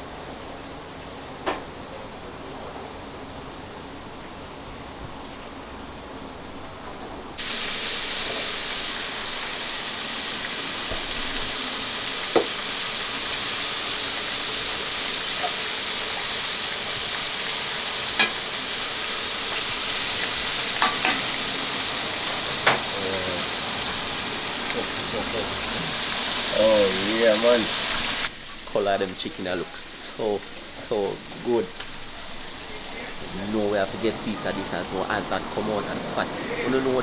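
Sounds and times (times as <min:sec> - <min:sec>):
oil bubbling and sizzling: 0:00.0 - 0:37.0.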